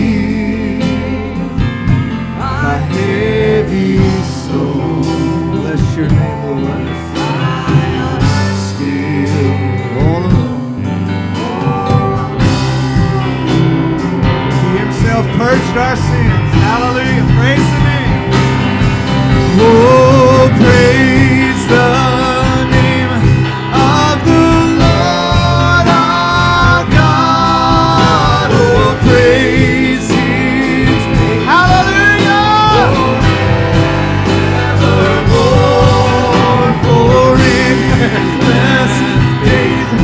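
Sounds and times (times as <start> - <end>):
melodic lead line with vibrato: 0.0 - 40.0
worship band music: 0.0 - 40.0.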